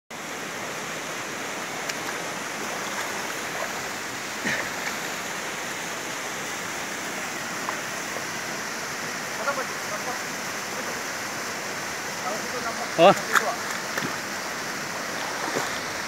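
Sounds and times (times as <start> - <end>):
small waterfall pouring into pool: 0.2 - 16.0.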